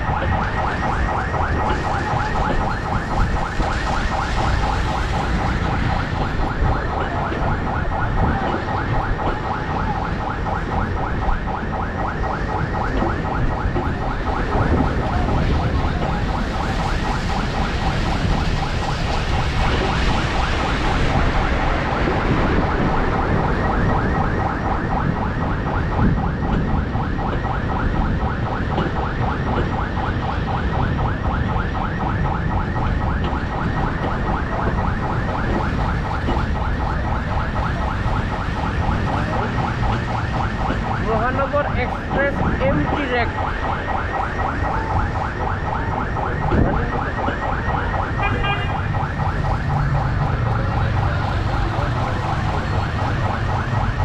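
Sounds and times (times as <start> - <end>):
low train rumble: 0.0 - 54.0.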